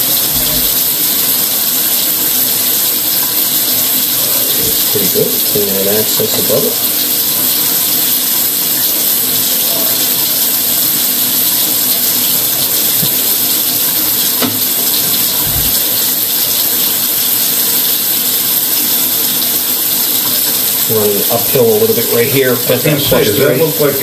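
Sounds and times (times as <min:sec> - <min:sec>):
water rushing through a pipe: 0:00.0 - 0:24.0.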